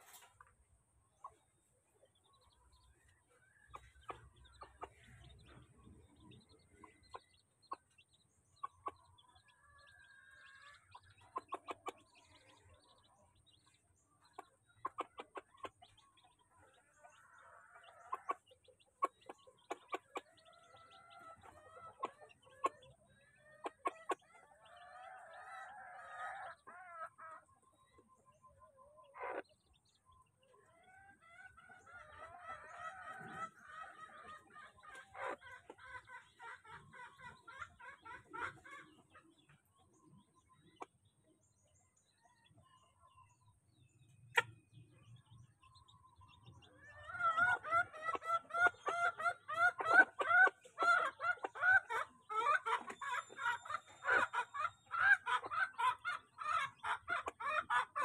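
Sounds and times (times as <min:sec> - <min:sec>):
hen clucking: 0:00.0 - 0:41.1, 0:42.5 - 0:58.0
chicks peeping: 0:00.0 - 0:58.0.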